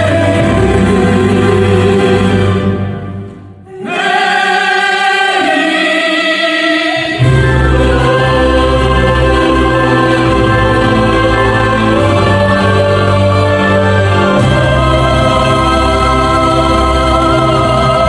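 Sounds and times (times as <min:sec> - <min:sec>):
deep bass: 0:00.0 - 0:03.7, 0:07.2 - 0:18.0
choir singing held notes: 0:00.0 - 0:18.0.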